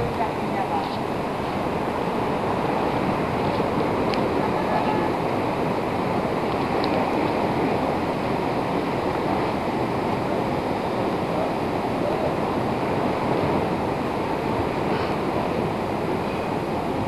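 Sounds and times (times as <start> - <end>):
distant city roar: 0.0 - 17.0
wind: 0.0 - 17.0.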